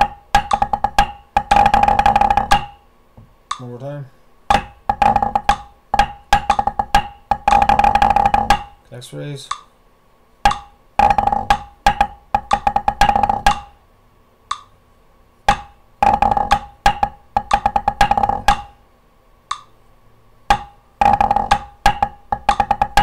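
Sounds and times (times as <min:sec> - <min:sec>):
drumsticks tapping practice pad: 0:00.0 - 0:09.7, 0:10.4 - 0:13.8, 0:14.4 - 0:14.8, 0:15.4 - 0:23.0.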